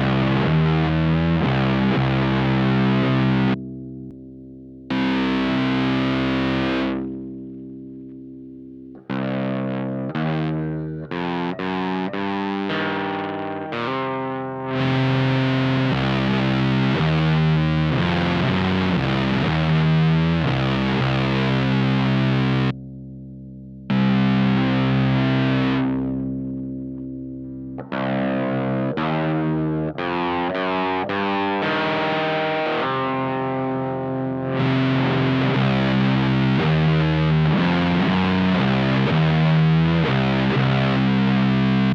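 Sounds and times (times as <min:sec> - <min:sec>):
distorted electric guitar riff: 0:00.0 - 0:04.2, 0:04.9 - 0:22.8, 0:23.9 - 0:41.9.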